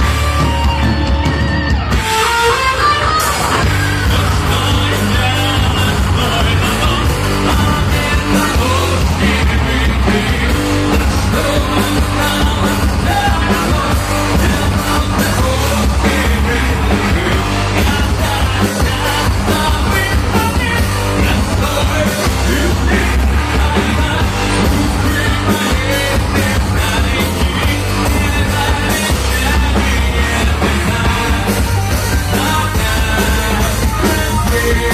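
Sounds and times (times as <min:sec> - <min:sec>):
live metal band: 0:00.0 - 0:34.9
singer yelling vocals: 0:01.3 - 0:34.9.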